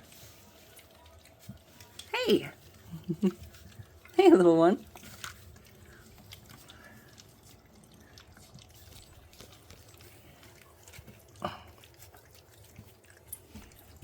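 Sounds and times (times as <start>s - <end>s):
puppies lapping wet food: 0.0s - 14.0s.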